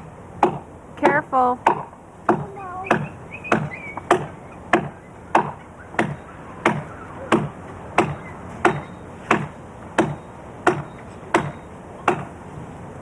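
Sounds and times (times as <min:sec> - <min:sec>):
axe chopping wood: 0:00.4 - 0:12.3.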